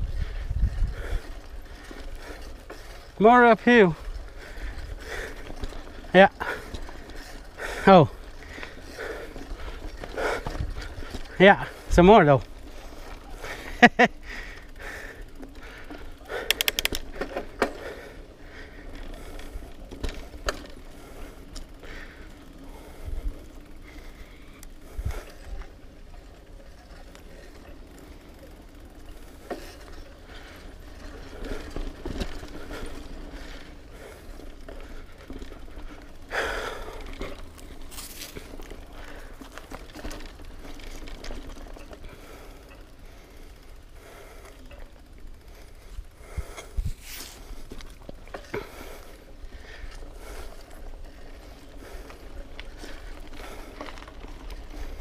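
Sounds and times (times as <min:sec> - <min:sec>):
rider breathing hard: 0:00.0 - 0:03.2, 0:03.9 - 0:55.0
bike chain and frame rattling: 0:00.0 - 0:55.0.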